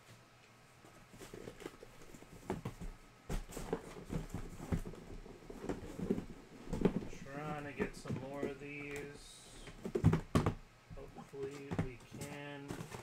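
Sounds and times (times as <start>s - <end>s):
cardboard rustling and scraping: 0.8s - 13.0s
boxes knocking together: 1.3s - 8.7s, 9.6s - 13.0s.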